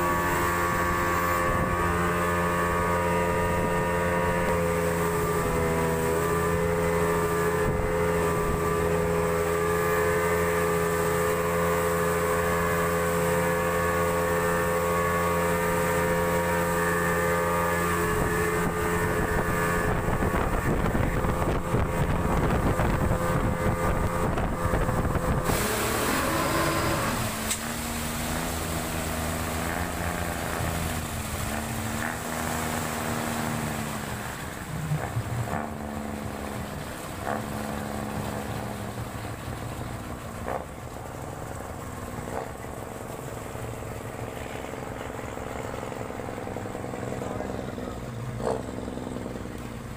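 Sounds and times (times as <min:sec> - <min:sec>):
outboard motor droning: 0:00.0 - 0:49.9
rushing wind and water: 0:00.0 - 0:49.9.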